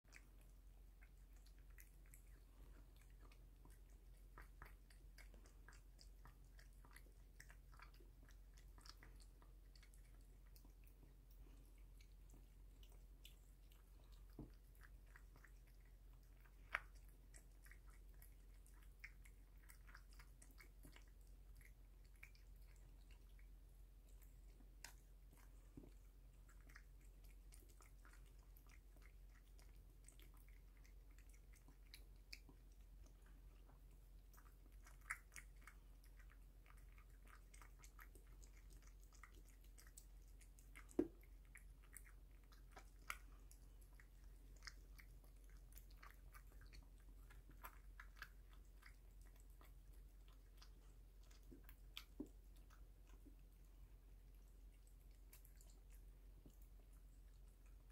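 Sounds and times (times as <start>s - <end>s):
cat chewing and lapping: 0.0s - 57.9s.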